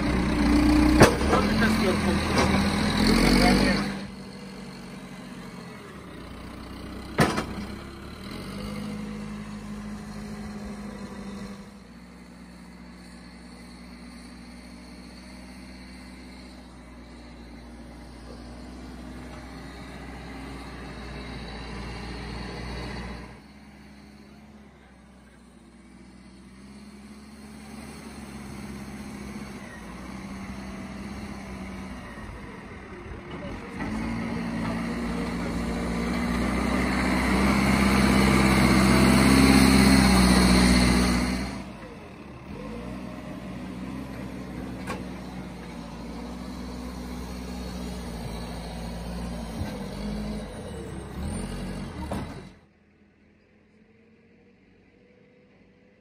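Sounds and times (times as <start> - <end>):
backhoe diesel engine running: 0.0 - 53.0.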